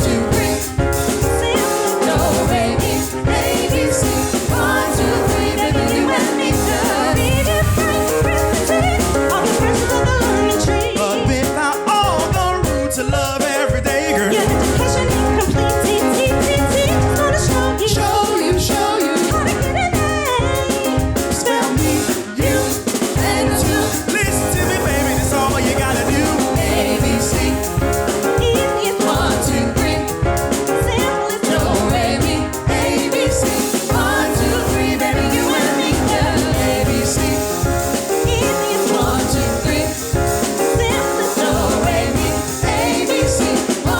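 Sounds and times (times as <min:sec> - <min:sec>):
band accompaniment with drums: 0:00.0 - 0:43.9
vocal ensemble singing: 0:00.0 - 0:43.9.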